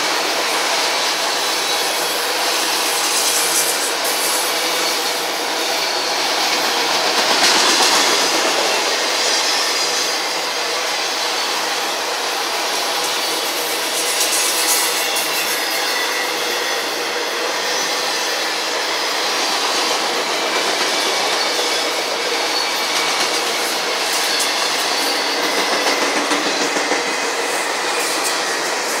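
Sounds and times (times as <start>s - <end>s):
freight train wheels rumbling on rails: 0.0s - 29.0s
faint high wheel squeal: 0.9s - 6.9s, 7.7s - 29.0s.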